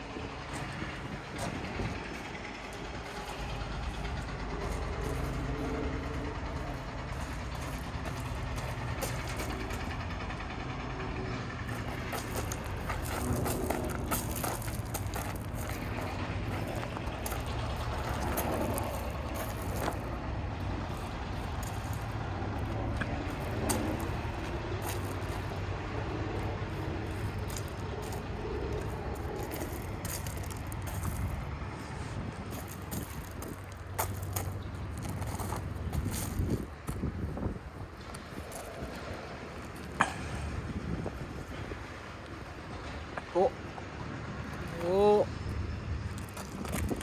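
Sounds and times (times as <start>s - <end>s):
low rumble of vehicles: 0.0s - 47.0s.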